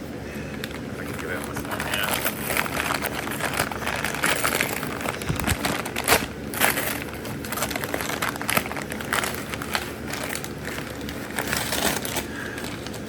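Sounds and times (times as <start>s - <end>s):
parcel packaging crinkling: 0.4s - 13.0s.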